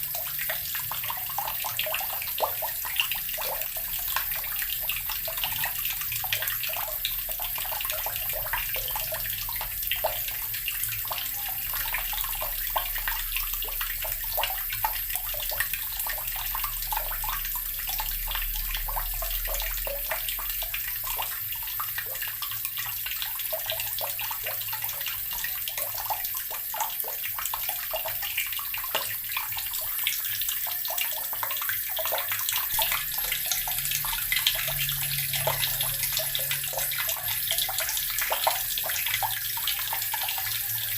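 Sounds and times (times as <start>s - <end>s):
tap water pouring into barrel: 0.0s - 40.9s.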